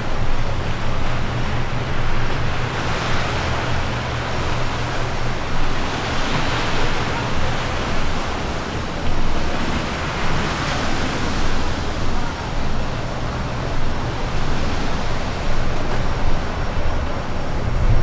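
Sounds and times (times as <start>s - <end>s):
sea water washing: 0.0s - 18.0s
wind rumbling on microphone: 0.0s - 18.0s.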